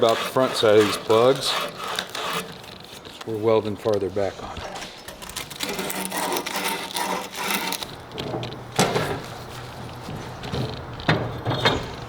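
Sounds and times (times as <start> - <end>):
handling noise: 1.9 - 12.0.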